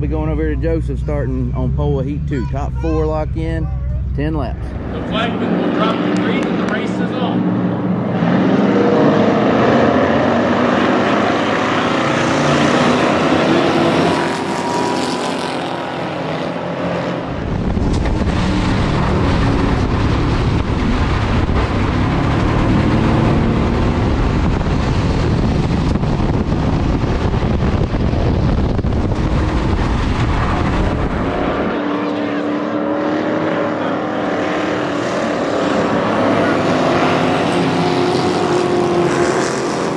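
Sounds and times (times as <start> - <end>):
race car engines on dirt track: 0.0 - 39.9.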